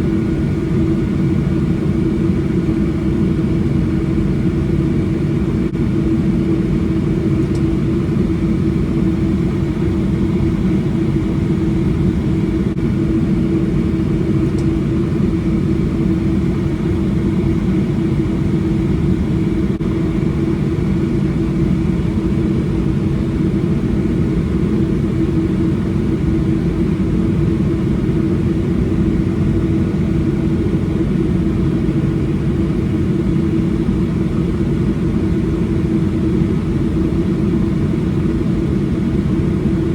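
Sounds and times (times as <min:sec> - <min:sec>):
airplane cabin engine drone: 0:00.0 - 0:39.9
steady hum: 0:00.0 - 0:39.9.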